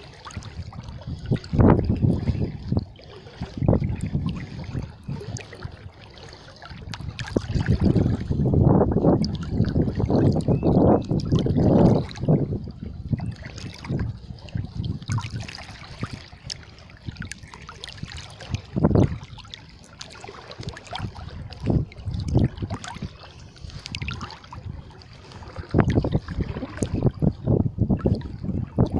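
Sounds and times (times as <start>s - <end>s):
water sloshing around wading legs: 0.0s - 28.9s.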